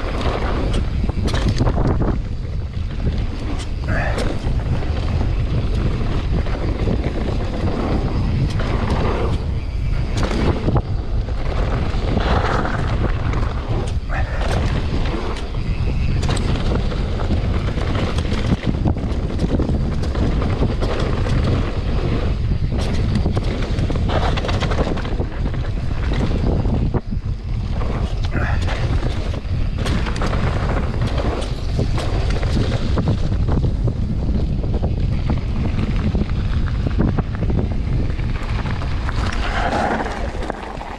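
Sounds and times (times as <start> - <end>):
bike knocks and rattles: 0.0 - 40.9
wind buffeting microphone: 0.0 - 40.9.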